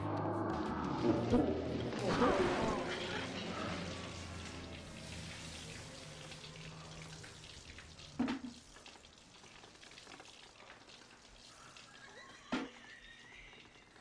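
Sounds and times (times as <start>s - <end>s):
liquid dripping and spattering: 1.7s - 13.1s.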